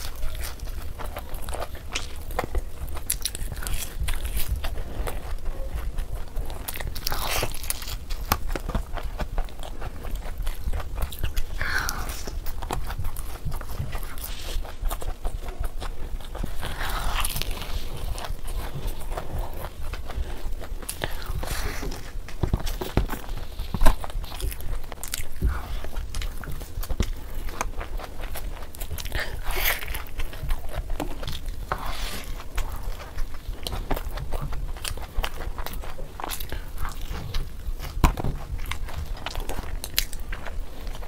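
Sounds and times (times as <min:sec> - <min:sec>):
biting and chewing food: 0:00.0 - 0:41.0.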